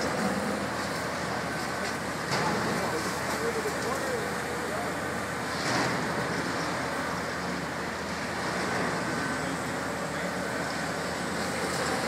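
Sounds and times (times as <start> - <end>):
demolition machinery rumble: 0.0 - 12.0.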